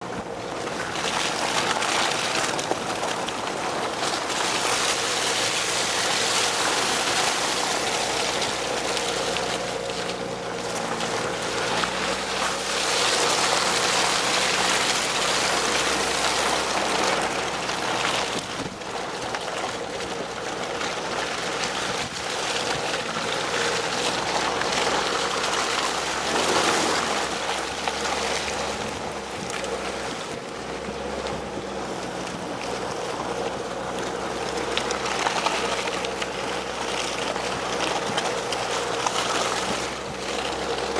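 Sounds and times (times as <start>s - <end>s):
low engine hum: 0.0s - 40.9s
tyres splashing through mud: 0.0s - 40.9s.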